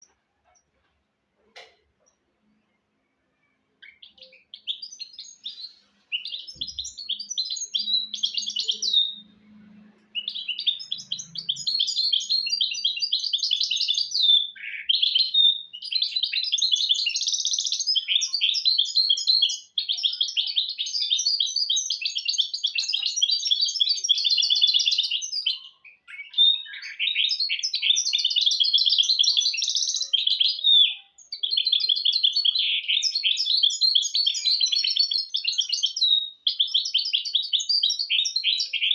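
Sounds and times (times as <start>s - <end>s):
finch twittering song: 2.0s - 38.9s.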